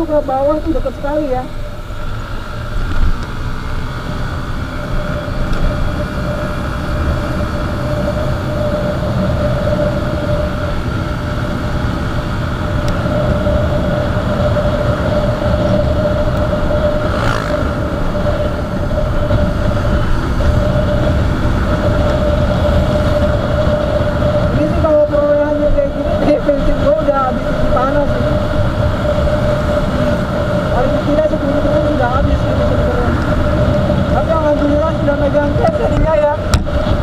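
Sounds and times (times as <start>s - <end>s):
motorcycle engine drone: 0.0s - 37.0s
steady whine: 0.0s - 37.0s
wind noise on microphone: 0.0s - 37.0s.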